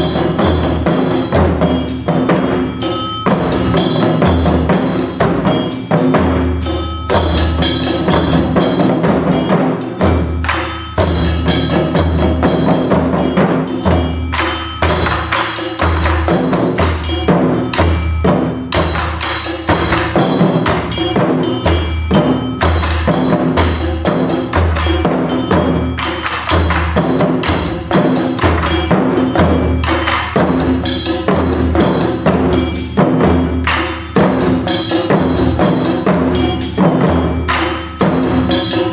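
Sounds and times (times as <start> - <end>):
taiko drum strikes: 0.0 - 38.9.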